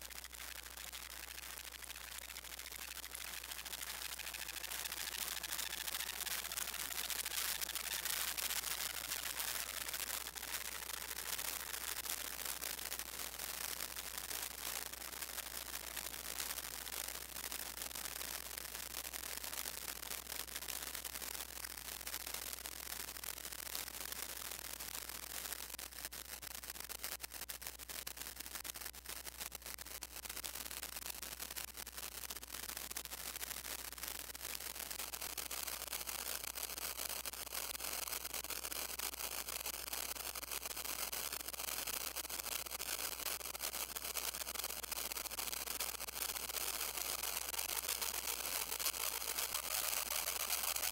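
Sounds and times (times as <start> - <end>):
synthesizer crackling hiss: 0.0 - 50.9.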